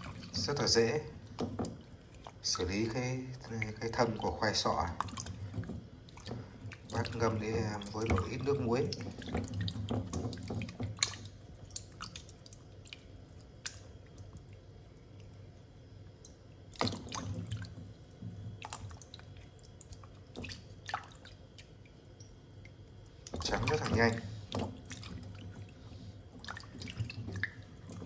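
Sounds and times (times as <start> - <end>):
water splashing and dripping: 0.0 - 15.5, 16.1 - 28.0.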